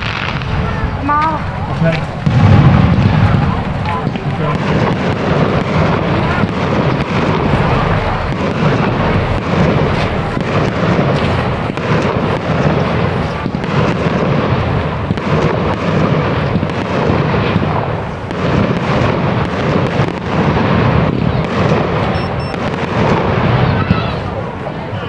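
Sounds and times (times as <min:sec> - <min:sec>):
firework bangs and crackling: 0:00.0 - 0:25.0.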